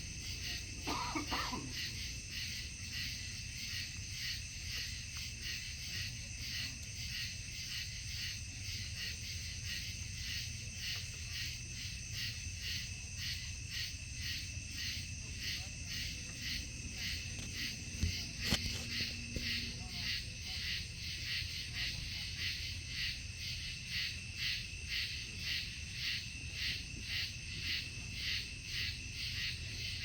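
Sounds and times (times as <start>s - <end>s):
night insects pulsing: 0.0s - 30.0s.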